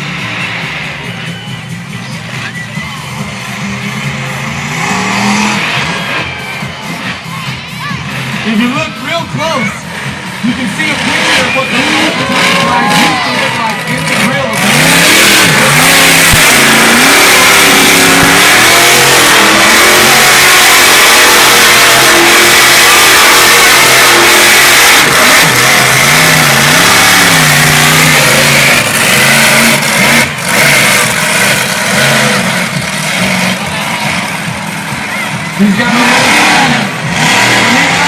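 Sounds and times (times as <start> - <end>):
truck engine revving loudly: 0.0 - 38.0.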